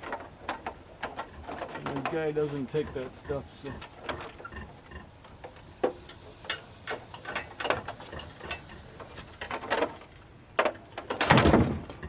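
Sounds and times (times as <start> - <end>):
hand tools clicking and knocking: 0.0 - 4.5, 5.4 - 12.0.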